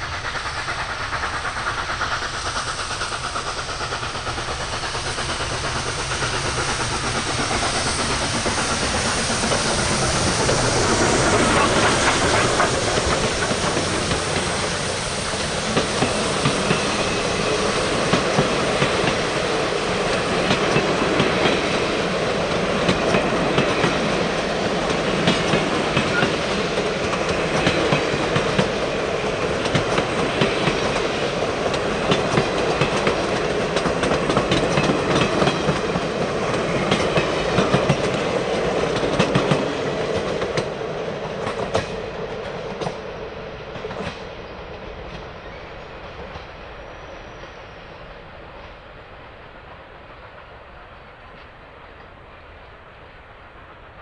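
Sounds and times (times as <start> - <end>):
train wheels clicking over rail joints: 0.0 - 47.6.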